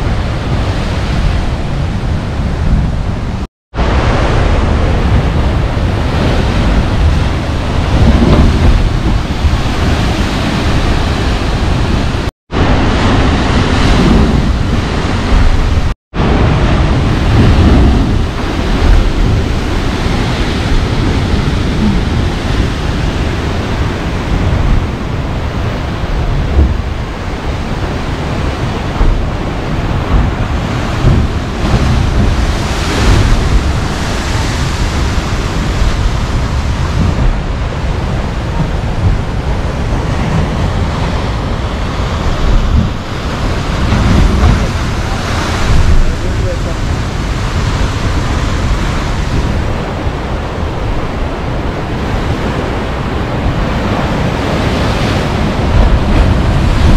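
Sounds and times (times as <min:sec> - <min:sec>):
wind rumbling on microphone: 0:00.0 - 0:56.9
surf crashing into rocks: 0:03.8 - 0:56.9.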